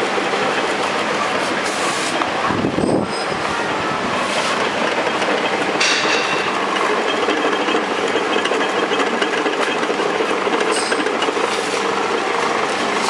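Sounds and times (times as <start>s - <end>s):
cutting machine rattling: 0.0s - 13.0s.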